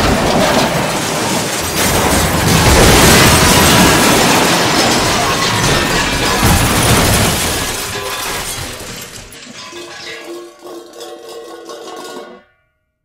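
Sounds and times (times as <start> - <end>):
crash with shattering debris: 0.0 - 12.4.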